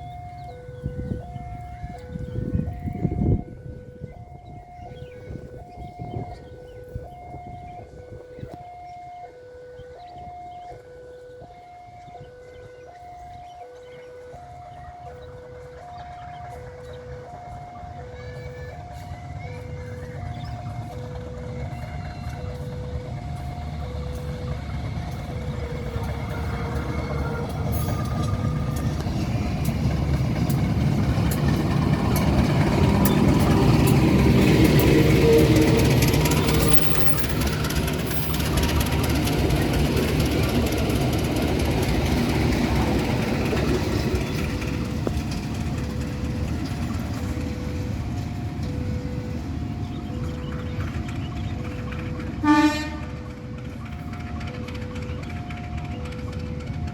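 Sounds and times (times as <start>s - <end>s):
diesel train rumbling past: 0.0s - 56.9s.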